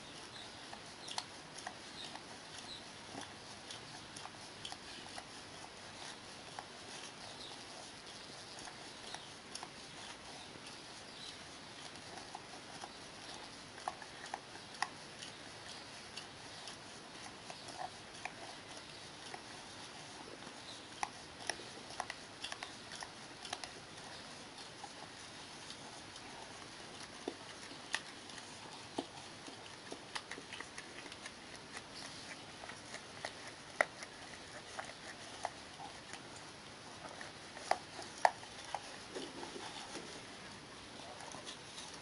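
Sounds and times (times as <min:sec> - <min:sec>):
dog licking and smacking: 0:00.1 - 0:42.0.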